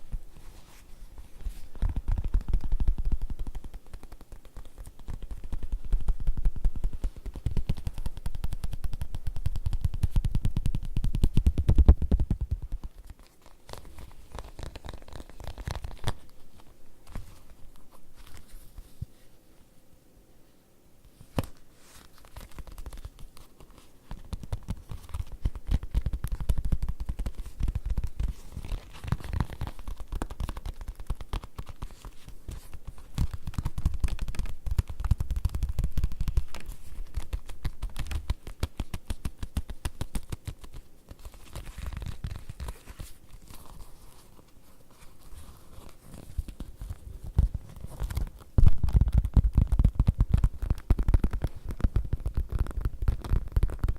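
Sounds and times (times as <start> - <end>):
rapid tapping on leather: 1.4 - 16.4, 22.2 - 44.3, 45.3 - 53.9.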